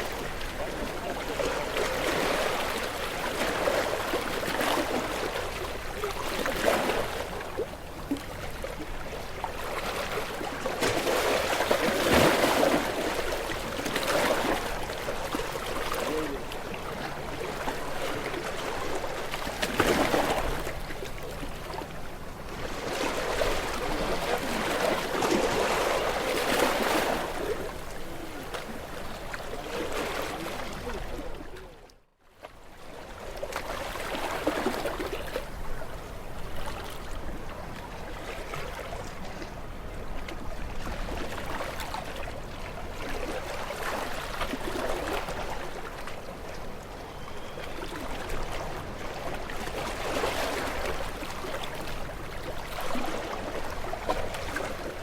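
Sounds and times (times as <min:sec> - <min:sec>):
small waves breaking on shore: 0:00.0 - 0:55.0.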